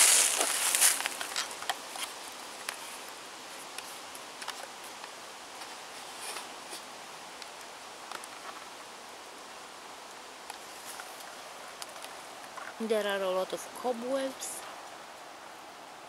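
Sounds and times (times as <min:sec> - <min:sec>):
rustling through dry leaves: 0:00.0 - 0:13.0
small ticks and rustles: 0:00.0 - 0:15.9
faint woodland hiss: 0:00.0 - 0:16.0.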